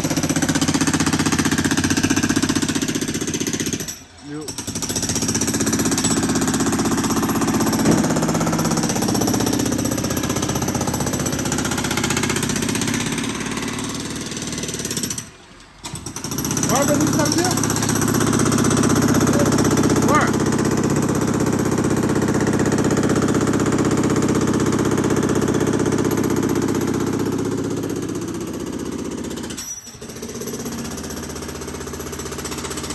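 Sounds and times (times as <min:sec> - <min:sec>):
jackhammer breaking concrete: 0:00.0 - 0:32.9.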